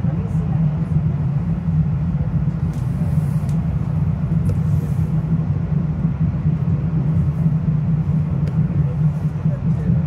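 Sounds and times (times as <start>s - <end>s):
train rumbling inside car: 0.0s - 10.0s.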